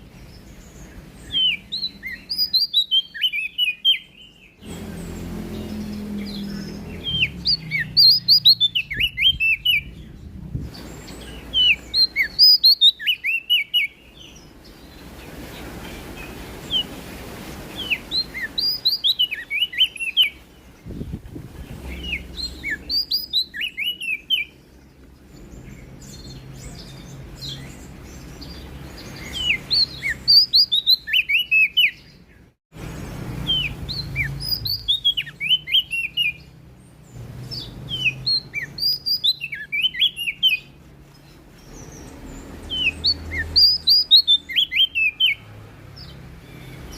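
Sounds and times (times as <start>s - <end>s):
warbler singing high chirps: 0.0s - 46.9s.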